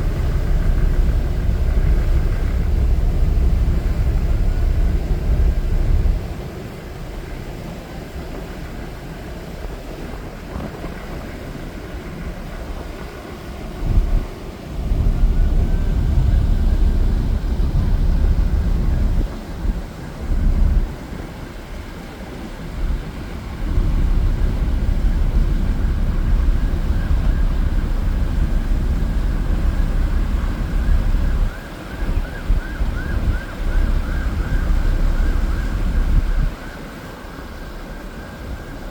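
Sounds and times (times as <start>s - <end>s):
ship engines rumbling: 0.0s - 38.9s
water: 0.0s - 38.9s
wind on microphone: 0.0s - 38.9s.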